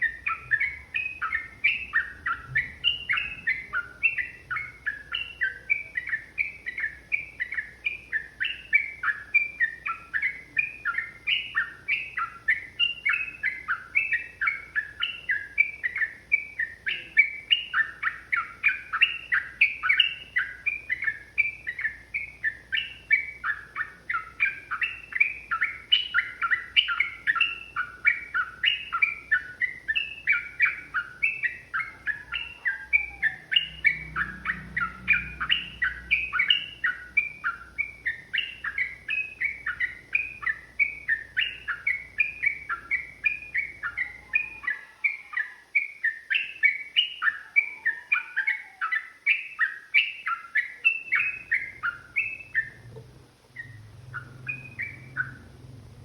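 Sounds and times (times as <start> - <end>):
bubbly bird chirping song: 0.0 - 56.0.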